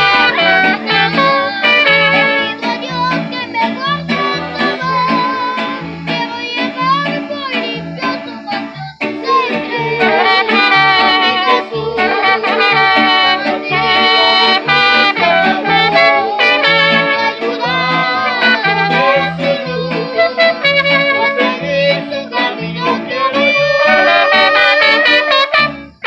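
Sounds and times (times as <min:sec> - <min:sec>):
accordion: 0:00.0 - 0:26.0
boy singing: 0:00.0 - 0:26.0
guitars: 0:00.0 - 0:26.0
trumpets: 0:00.0 - 0:26.0.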